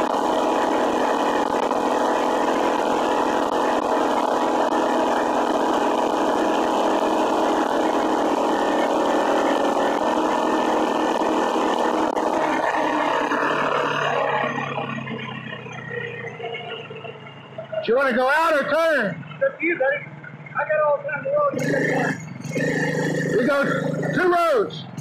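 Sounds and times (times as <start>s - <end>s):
small gas engine running: 0.0s - 25.0s
wind: 0.0s - 25.0s.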